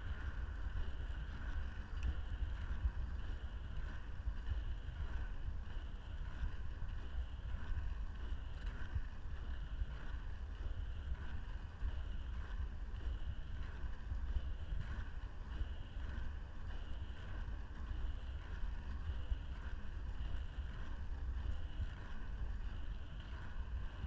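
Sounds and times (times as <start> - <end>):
skate wheels rolling on asphalt: 0.0 - 24.0
wind buffeting microphone: 0.0 - 24.0.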